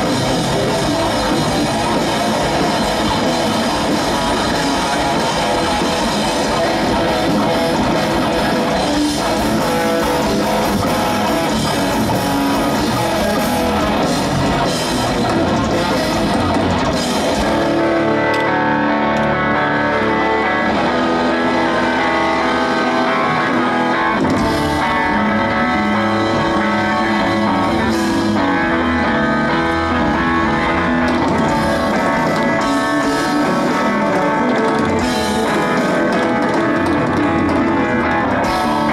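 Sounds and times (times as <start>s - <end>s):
bass: 0.0s - 38.9s
drum kit: 0.0s - 38.9s
electric guitars: 0.0s - 38.9s.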